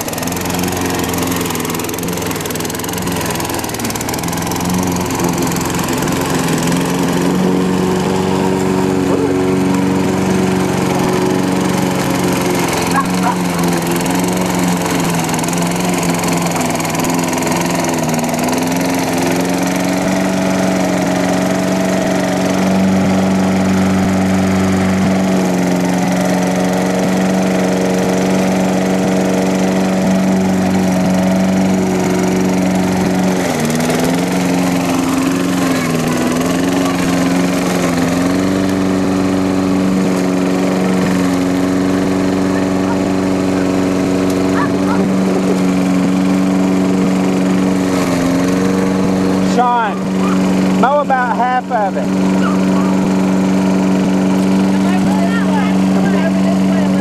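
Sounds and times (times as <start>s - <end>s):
lawn mower cutting grass: 0.0s - 57.0s.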